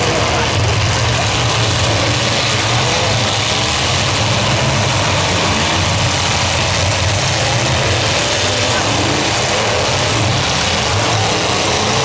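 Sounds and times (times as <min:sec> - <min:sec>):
car engines droning: 0:00.0 - 0:12.0.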